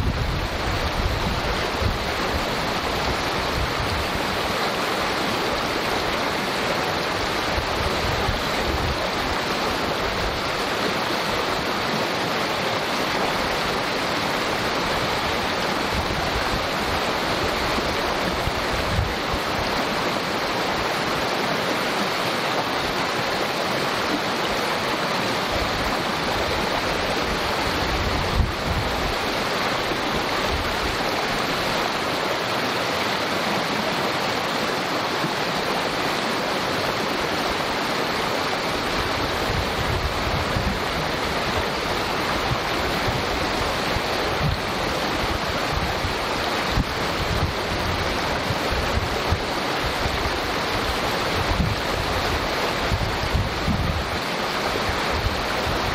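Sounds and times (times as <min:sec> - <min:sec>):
creek rushing and babbling: 0:00.0 - 0:55.9.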